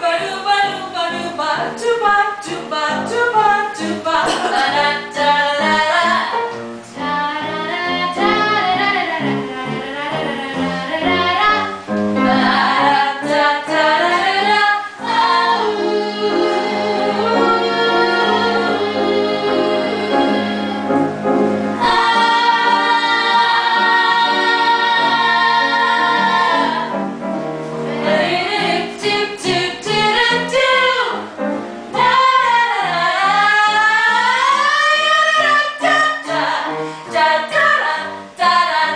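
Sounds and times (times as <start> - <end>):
women singing together: 0.0 - 21.0, 21.8 - 27.2, 27.8 - 38.9.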